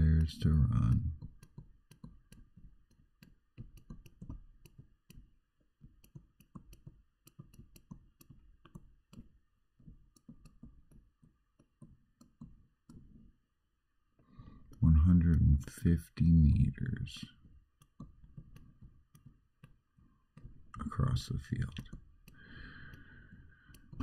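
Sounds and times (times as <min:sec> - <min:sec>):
stylus tapping on screen: 0:00.0 - 0:13.4, 0:17.2 - 0:24.0.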